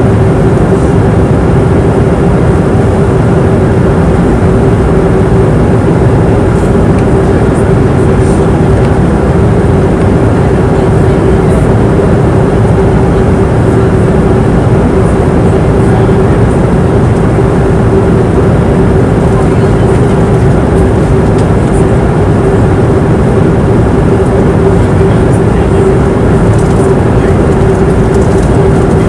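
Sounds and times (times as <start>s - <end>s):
airliner engine and airflow rush: 0.0s - 29.0s
constant humming tone: 0.0s - 29.0s
deep rumble: 0.0s - 29.0s.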